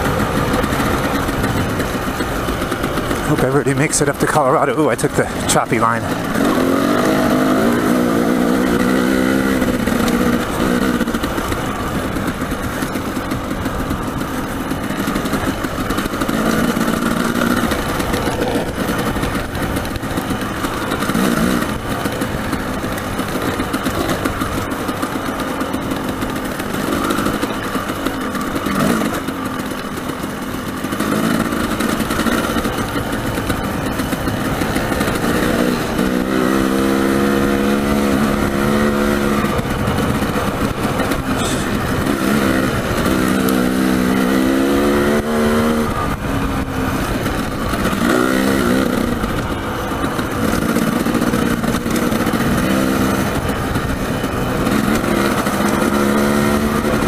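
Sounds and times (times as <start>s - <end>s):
constant rushing noise: 0.0s - 57.0s
dirt bike engine revving: 0.0s - 57.0s.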